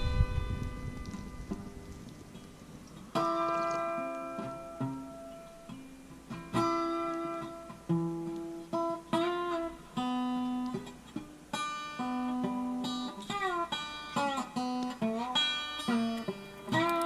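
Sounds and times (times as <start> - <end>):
slow acoustic guitar: 0.0 - 17.0.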